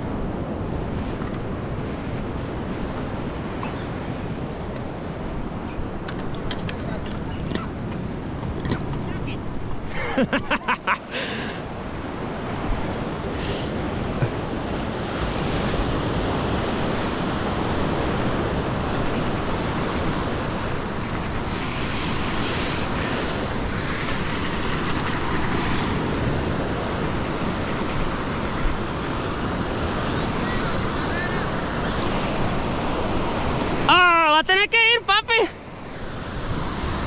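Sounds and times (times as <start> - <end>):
waves breaking on a beach: 0.0 - 37.0.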